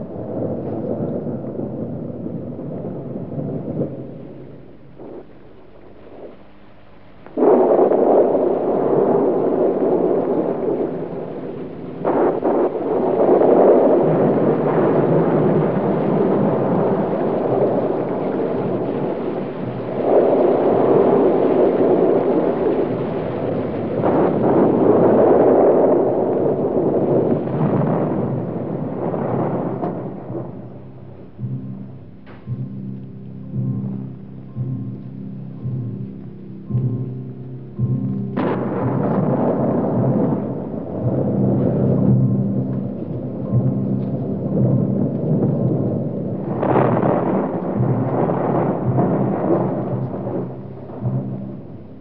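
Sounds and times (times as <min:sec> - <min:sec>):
loud rolling rumble: 0:00.0 - 0:52.0
low humming drone: 0:00.0 - 0:52.0.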